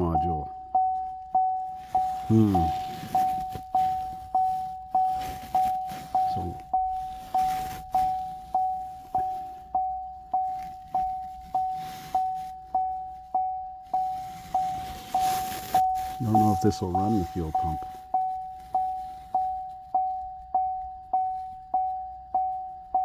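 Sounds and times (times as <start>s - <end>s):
car warning chime dinging: 0.0s - 23.0s.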